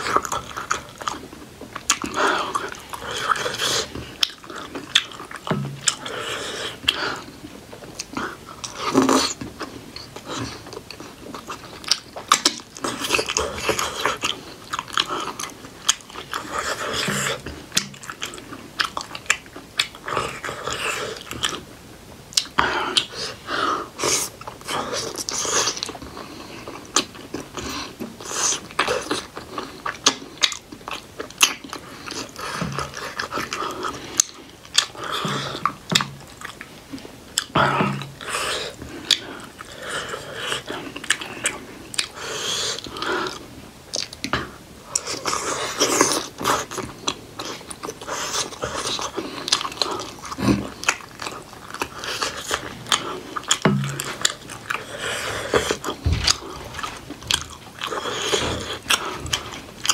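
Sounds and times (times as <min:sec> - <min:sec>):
biting and chewing dumplings: 0:00.0 - 0:59.9.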